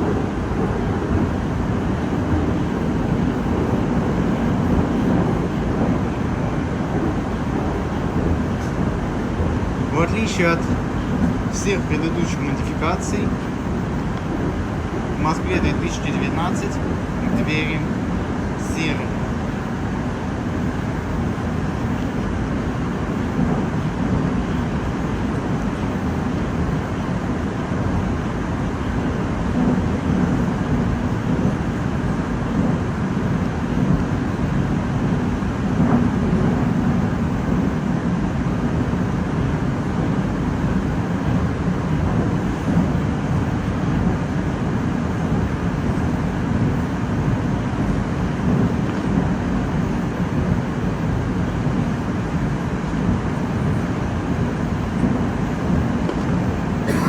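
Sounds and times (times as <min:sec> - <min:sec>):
metro train rumbling: 0:00.0 - 0:57.0.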